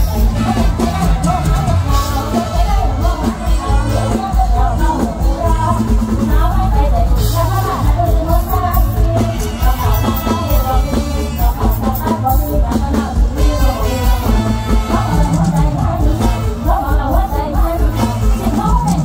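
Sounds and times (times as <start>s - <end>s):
live band music over speakers: 0.0s - 19.0s
person singing: 0.0s - 19.0s.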